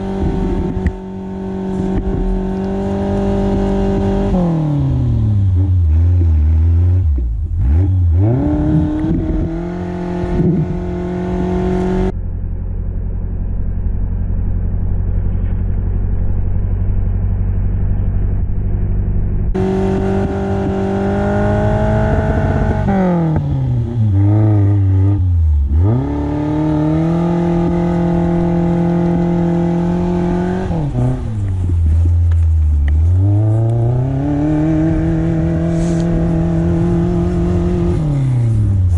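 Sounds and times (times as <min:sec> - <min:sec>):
car engine revving under load: 0:00.0 - 0:38.9.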